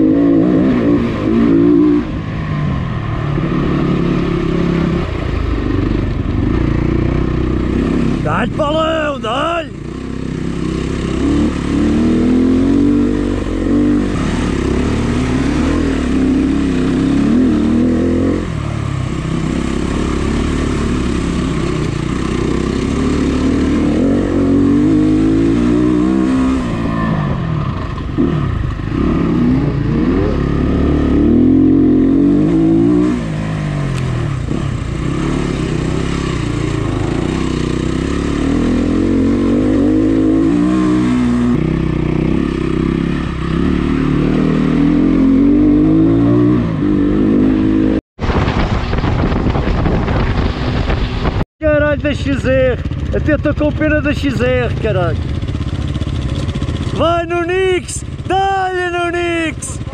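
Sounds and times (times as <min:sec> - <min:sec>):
dirt bike engine revving: 0:00.0 - 0:02.6, 0:03.3 - 0:59.9.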